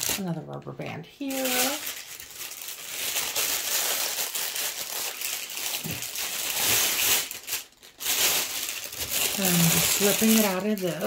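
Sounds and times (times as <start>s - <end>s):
packaging crinkling and rustling: 0.0s - 0.4s, 1.2s - 11.0s.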